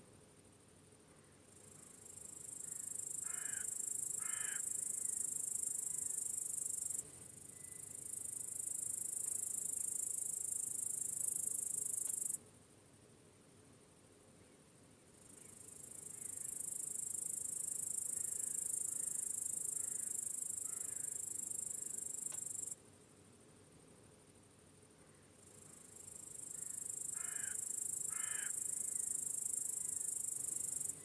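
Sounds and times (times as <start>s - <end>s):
crickets chorus: 0.4s - 12.4s, 14.4s - 22.8s, 23.4s - 31.0s.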